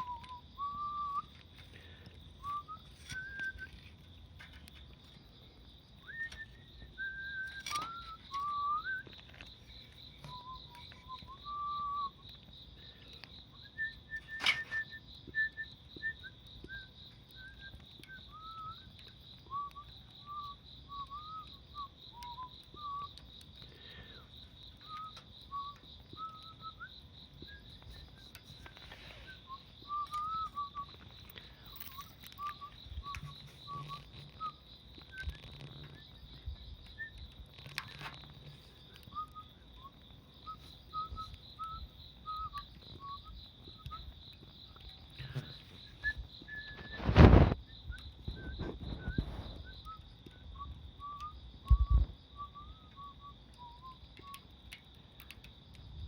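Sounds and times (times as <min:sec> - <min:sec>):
squeaky whistles and chirps: 0:00.0 - 0:05.2, 0:06.0 - 0:54.5
insects trilling: 0:00.0 - 0:56.0.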